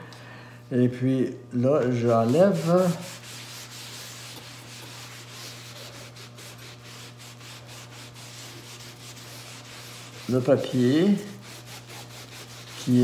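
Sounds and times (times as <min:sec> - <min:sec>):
cloth scrubbing wet paper: 0:01.9 - 0:13.0.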